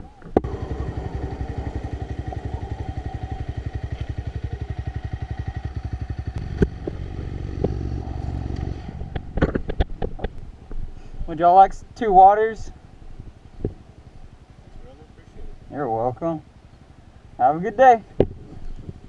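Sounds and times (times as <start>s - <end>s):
motorcycle engine idling: 0.1s - 19.0s.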